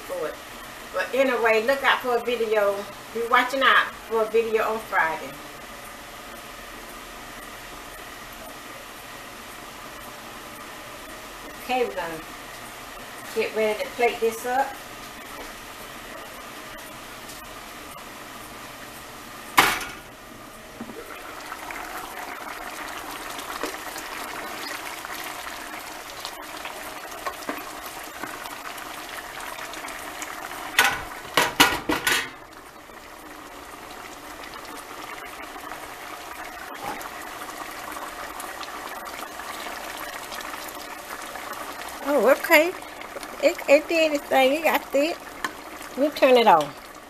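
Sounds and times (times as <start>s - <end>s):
pot simmering and bubbling: 0.0s - 47.0s.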